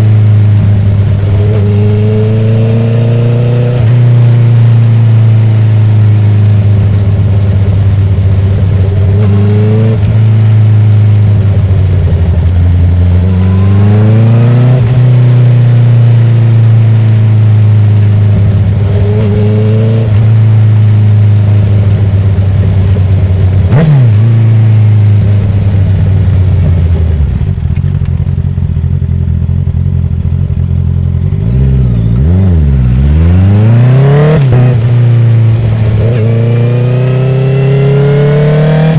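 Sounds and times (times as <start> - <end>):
motorcycle engine high-revving drone: 0.0 - 38.9.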